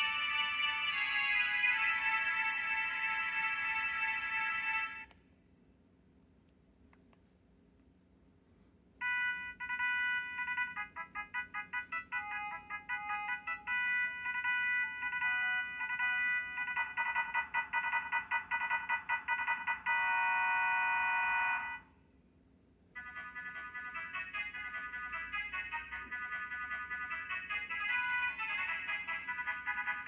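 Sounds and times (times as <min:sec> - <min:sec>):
electronic ringtone melody: 0:00.0 - 0:05.0, 0:09.0 - 0:21.8, 0:23.0 - 0:30.0.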